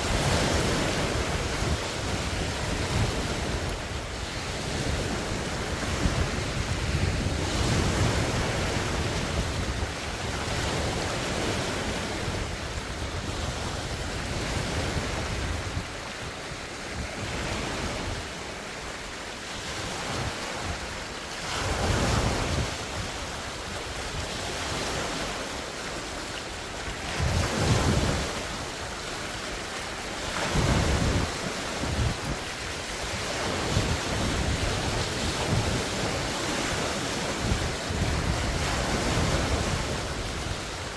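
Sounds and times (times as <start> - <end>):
wind buffeting microphone: 0.0 - 18.4, 19.6 - 25.5, 26.8 - 40.9
lake waves breaking on shore: 0.0 - 40.9.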